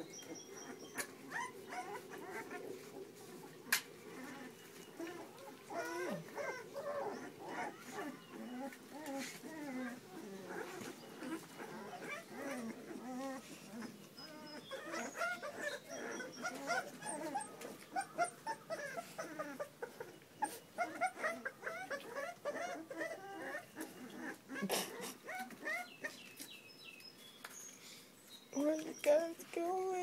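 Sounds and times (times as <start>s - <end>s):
puppies whimpering and yipping: 0.0s - 26.6s.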